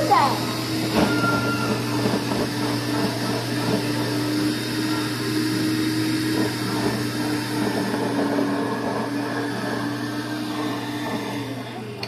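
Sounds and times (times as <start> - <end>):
blower whooshing hum: 0.0 - 12.0.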